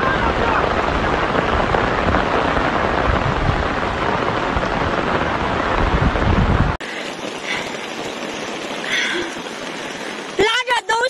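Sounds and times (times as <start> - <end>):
floodwater rushing: 0.0 - 11.0
heavy rain pouring: 0.0 - 11.0.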